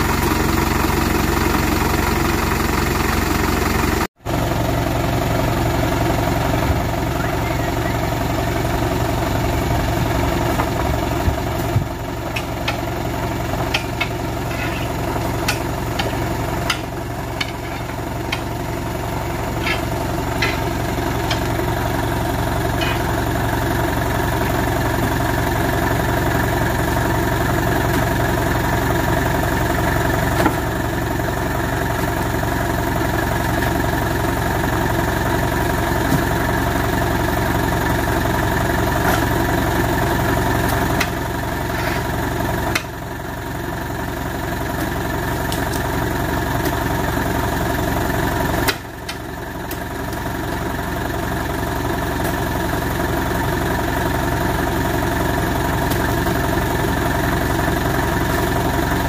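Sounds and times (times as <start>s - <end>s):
lorry engine idling: 0.0s - 59.0s.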